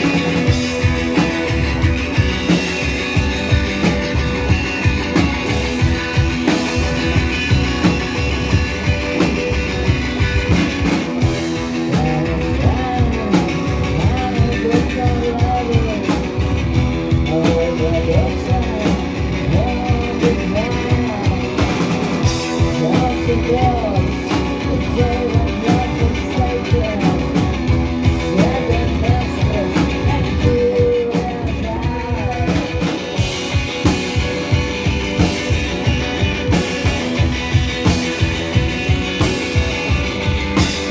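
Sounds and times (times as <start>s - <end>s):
droning guitars: 0.0s - 40.9s
punk rock band playing live: 0.0s - 40.9s
steady drumbeat: 0.0s - 40.9s.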